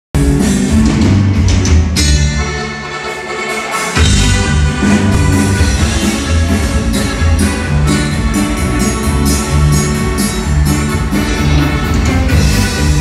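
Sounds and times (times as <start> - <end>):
electric bass: 0.2 - 2.8, 4.0 - 13.0
drum kit: 0.2 - 13.0
guitar: 0.2 - 13.0
accordion: 2.1 - 13.0.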